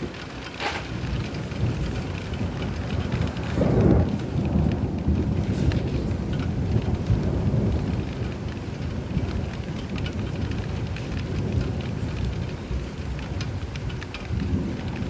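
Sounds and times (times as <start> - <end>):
low rolling thunder rumble: 0.0 - 15.0
raindrops ticking: 0.0 - 15.0
steady rain: 0.0 - 15.0.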